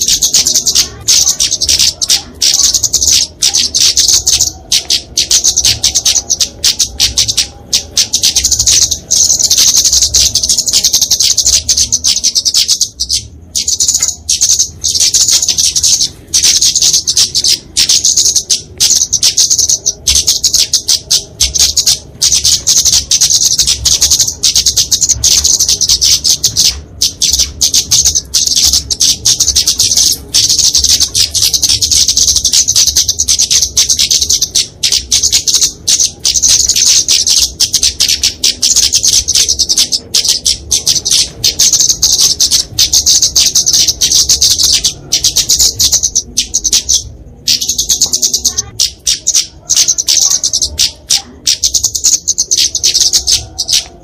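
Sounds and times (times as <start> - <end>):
birds giving high sharp calls: 0.0 - 54.0.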